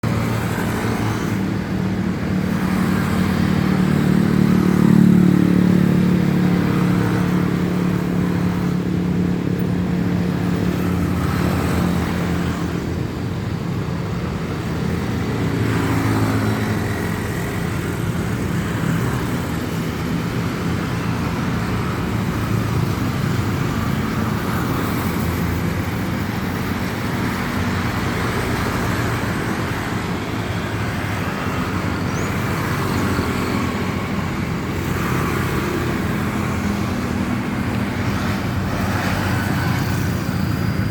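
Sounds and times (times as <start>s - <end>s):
road traffic noise: 0.0s - 40.9s.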